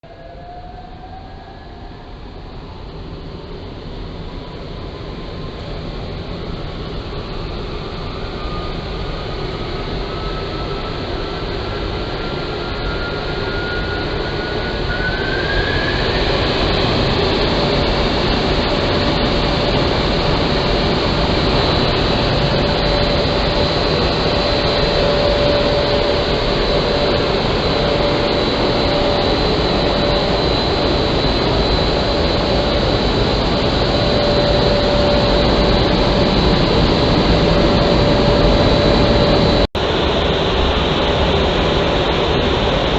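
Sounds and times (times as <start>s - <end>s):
machine noise with whine: 0.0s - 42.9s.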